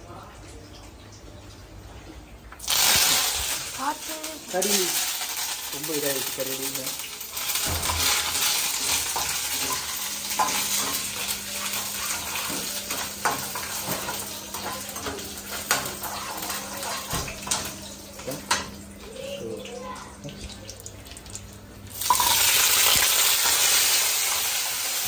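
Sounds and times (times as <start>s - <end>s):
food sizzling in frying pan: 2.6s - 25.0s.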